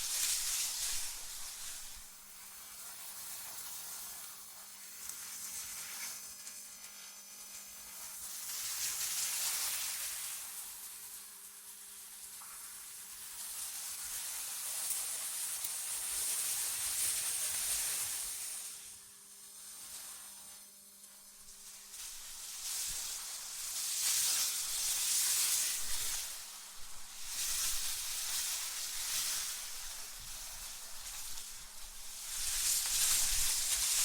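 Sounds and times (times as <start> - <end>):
airy wind-like hiss: 0.0 - 5.9, 8.4 - 34.0.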